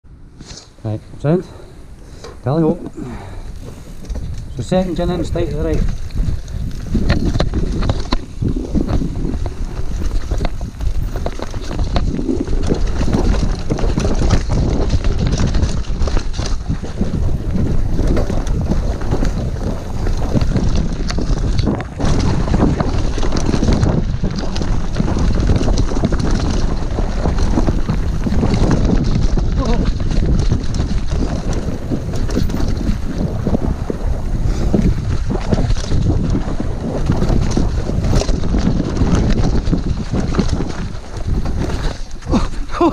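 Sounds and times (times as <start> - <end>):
wind rushing over microphone: 0.0 - 42.9
tyres rolling over dirt: 2.2 - 42.9
bike rattling and knocking: 2.3 - 42.9.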